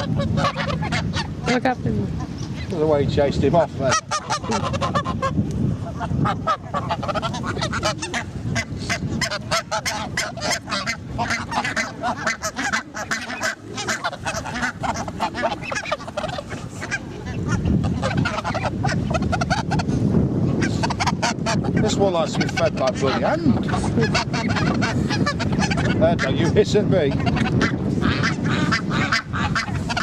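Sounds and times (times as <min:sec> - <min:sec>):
geese honking: 0:00.0 - 0:02.8, 0:03.5 - 0:30.0.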